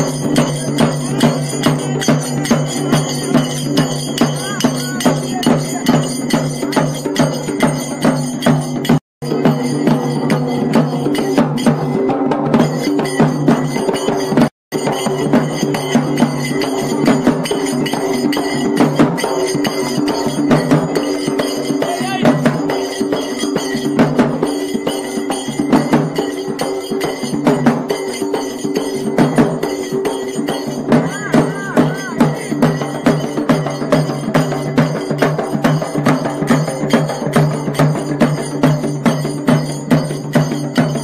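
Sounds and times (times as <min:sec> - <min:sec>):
fast dense drumming: 0:00.0 - 0:41.0.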